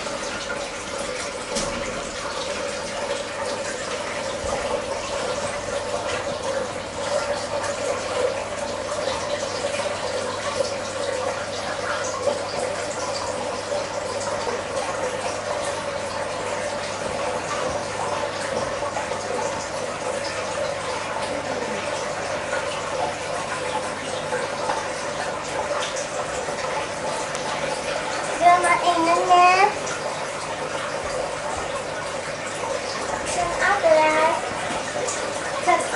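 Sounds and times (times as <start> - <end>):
faint low electrical hum: 0.0 - 35.9
trickle of running water: 0.0 - 35.9.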